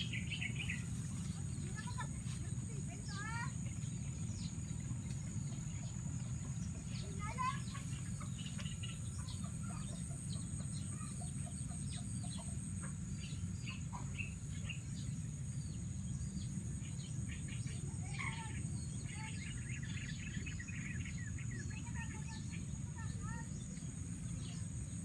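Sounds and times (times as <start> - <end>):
birds chirping and calling: 0.0 - 25.0
low steady rumble: 0.0 - 25.0.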